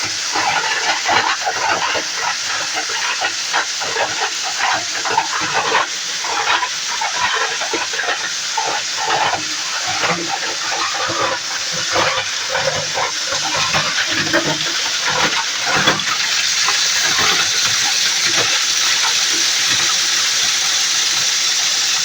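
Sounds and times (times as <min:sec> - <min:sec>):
plastic grinding machine: 0:00.0 - 0:22.0.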